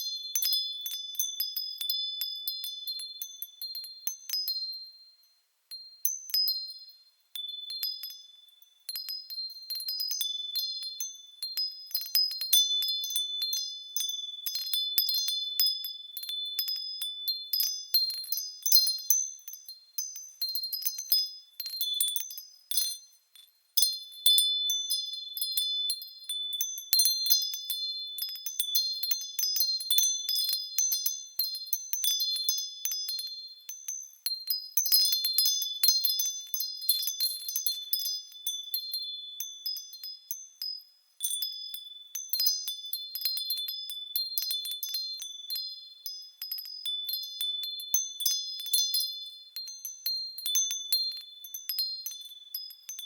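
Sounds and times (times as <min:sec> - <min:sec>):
wind chimes ringing: 0:07.4 - 0:53.0.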